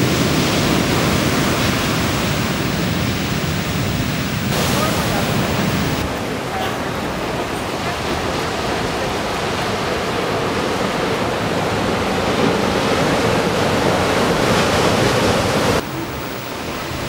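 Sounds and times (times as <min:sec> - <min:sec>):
waves breaking against seawall: 0:00.0 - 0:15.8
small waves washing in shallows: 0:00.0 - 0:17.0.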